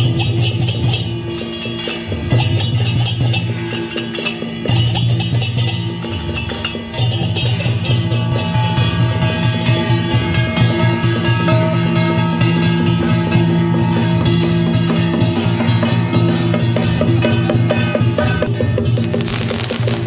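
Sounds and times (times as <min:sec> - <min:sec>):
steady percussion beat: 0:00.0 - 0:20.0.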